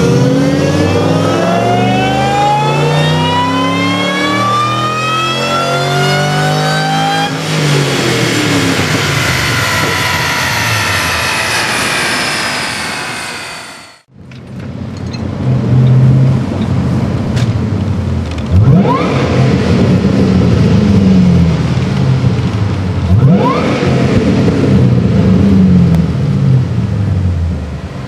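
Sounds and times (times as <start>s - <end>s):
car engine accelerating: 0.0s - 28.0s
supercharger whine: 0.0s - 28.0s.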